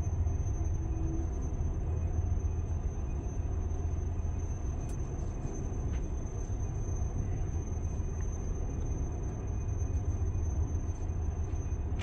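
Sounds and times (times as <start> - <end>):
faint high whine: 0.0 - 12.0
train car rolling rumble: 0.0 - 12.0.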